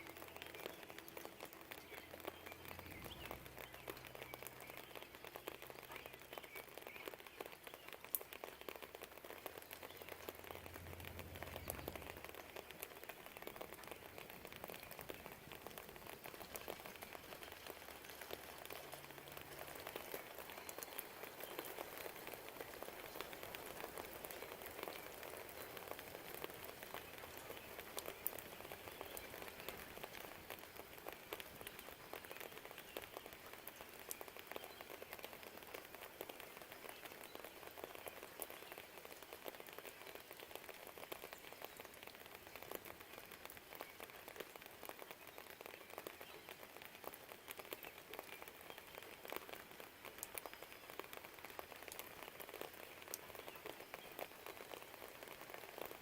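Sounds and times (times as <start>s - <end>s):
faint rain patter: 0.0s - 56.0s.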